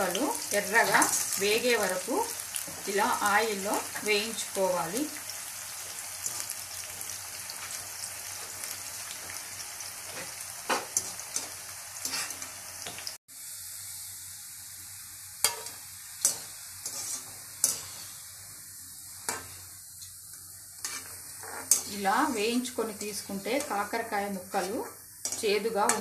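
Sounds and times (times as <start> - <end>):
deep-frying sizzle in oil: 0.0 - 26.0.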